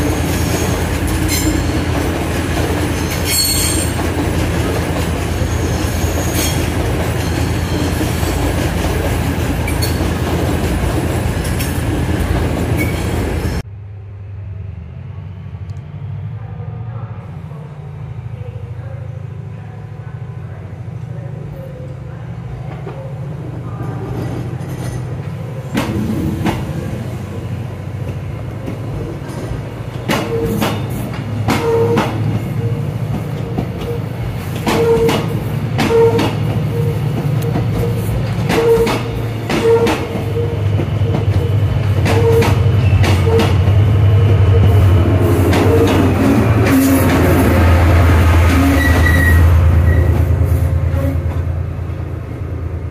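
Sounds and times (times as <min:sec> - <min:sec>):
train low drone: 0:00.0 - 0:52.9.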